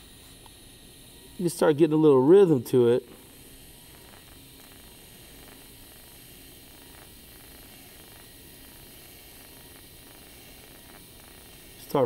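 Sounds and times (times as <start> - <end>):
welding arc hiss and buzz: 0.0 - 12.0.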